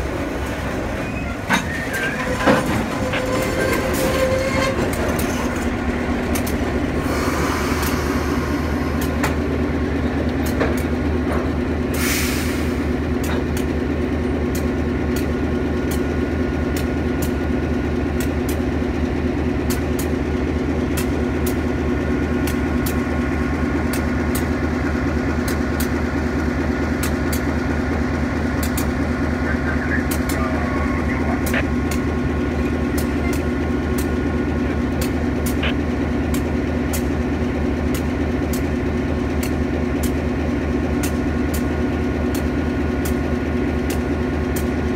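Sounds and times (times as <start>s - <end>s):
locomotive diesel engine idling: 4.8s - 44.9s.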